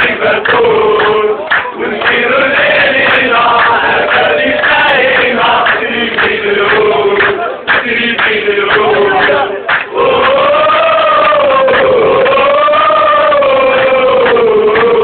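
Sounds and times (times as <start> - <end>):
crowd chanting: 0.0 - 15.0.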